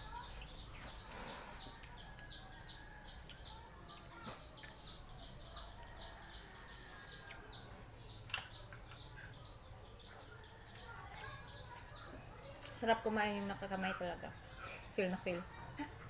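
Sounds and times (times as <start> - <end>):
bird chirping: 0.0 - 15.9.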